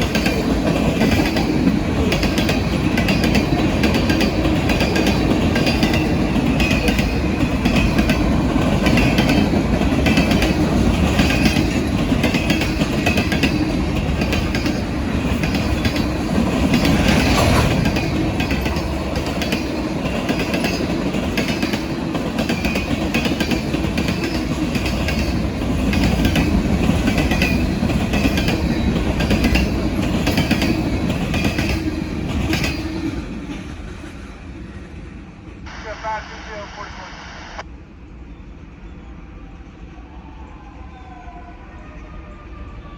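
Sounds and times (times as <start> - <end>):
freight train rumbling past: 0.0 - 42.9.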